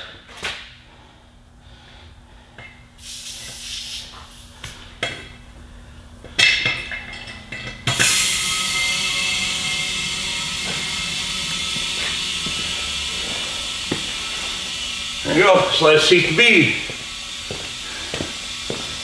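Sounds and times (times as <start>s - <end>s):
compressed air hissing: 1.7s - 7.1s, 7.8s - 19.0s.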